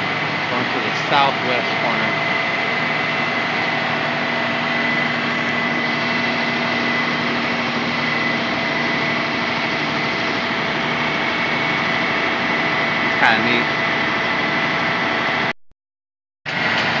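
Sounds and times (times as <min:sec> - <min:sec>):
crane engine running: 0:00.0 - 0:15.5, 0:16.5 - 0:17.0
thin high whine: 0:00.0 - 0:15.5.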